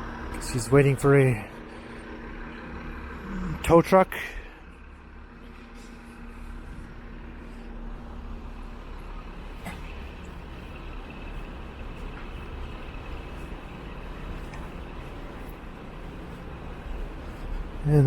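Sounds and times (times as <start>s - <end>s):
vehicle engines rumbling: 0.0s - 18.0s.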